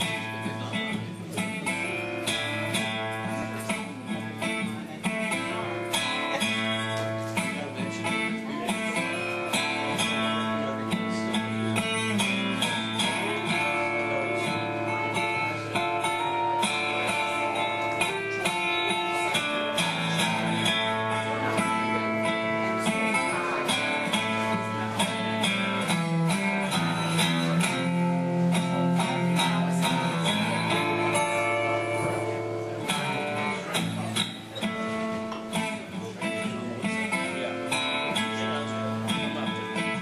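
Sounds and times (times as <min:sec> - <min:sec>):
resonator guitar playing: 0:00.0 - 0:40.0.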